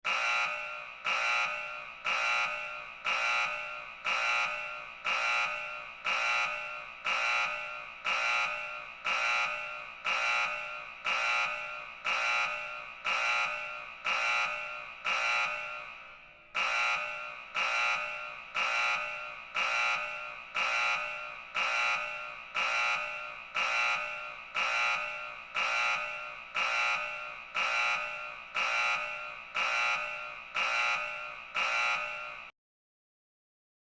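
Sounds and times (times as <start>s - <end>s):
electronic alarm beeps: 0.1s - 32.5s.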